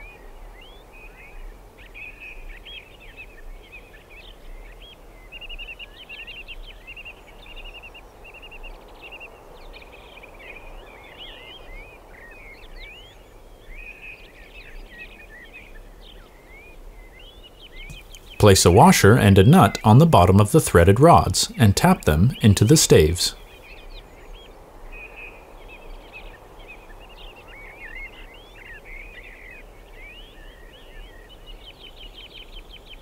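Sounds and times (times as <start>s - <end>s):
steady background hiss: 0.0s - 33.0s
songbirds chirping and singing: 2.0s - 33.0s.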